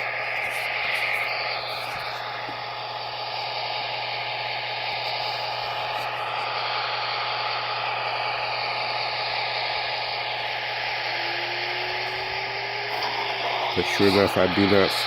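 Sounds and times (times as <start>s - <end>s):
low hum from small speaker: 0.0s - 15.0s
steady hiss: 0.0s - 15.0s.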